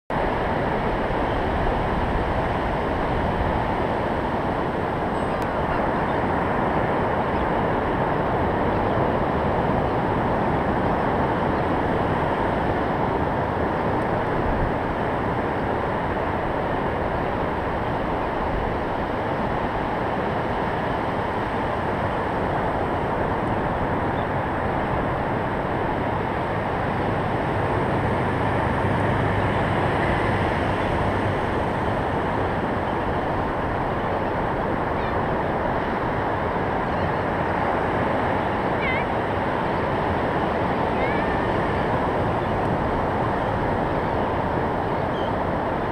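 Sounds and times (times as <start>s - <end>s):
ocean surf breaking on beach: 0.1s - 45.9s.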